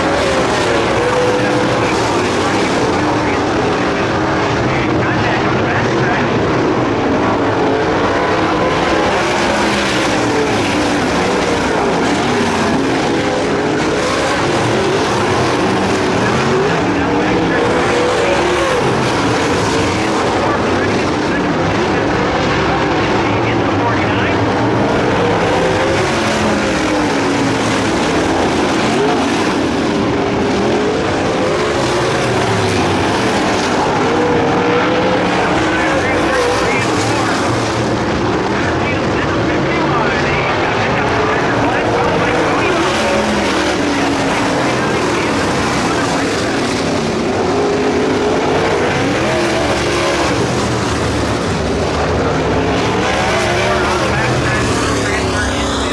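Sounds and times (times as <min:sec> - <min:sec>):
race car engines revving: 0:00.0 - 0:55.9.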